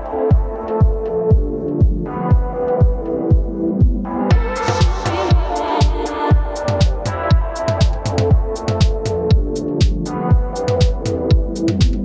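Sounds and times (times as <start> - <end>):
held synth chords: 0.0 - 12.0
kick drum beat: 0.0 - 12.0.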